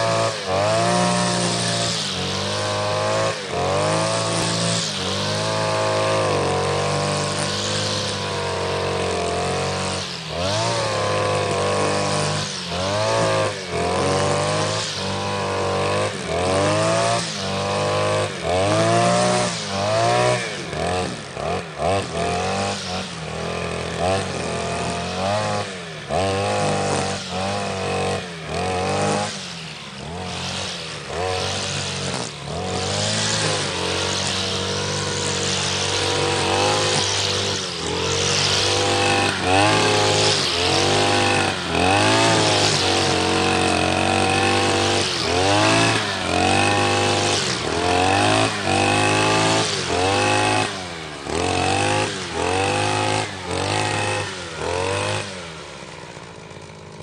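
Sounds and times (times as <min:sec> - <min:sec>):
grass trimmer revving: 0:00.0 - 0:57.0.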